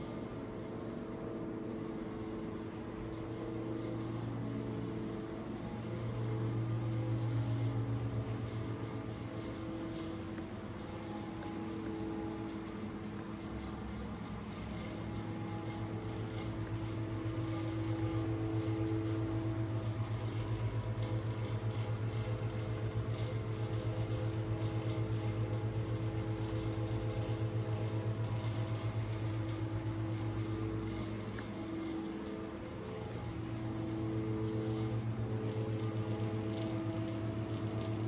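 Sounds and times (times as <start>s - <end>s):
pulsing machine hum: 0.0s - 38.0s.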